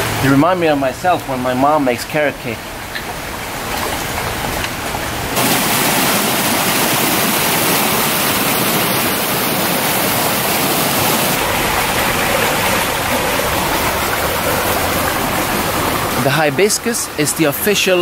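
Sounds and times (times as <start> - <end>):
water tumbling over rocks: 0.4 - 18.0.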